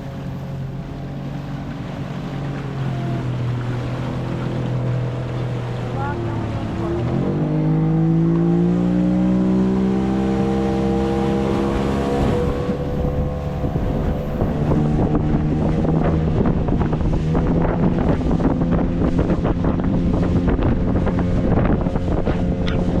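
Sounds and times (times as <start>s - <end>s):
small boat motor running: 0.0s - 23.0s
wind buffeting microphone: 0.0s - 23.0s.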